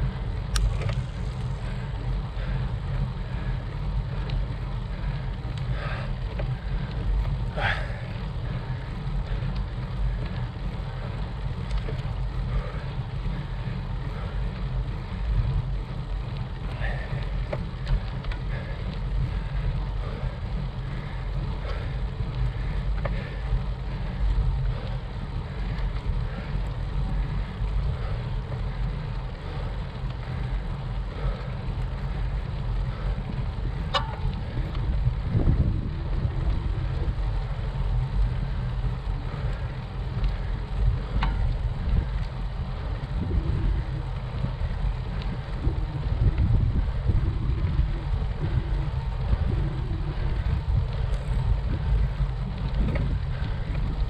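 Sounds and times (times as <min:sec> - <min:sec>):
wind rumbling on microphone: 0:00.0 - 0:54.0.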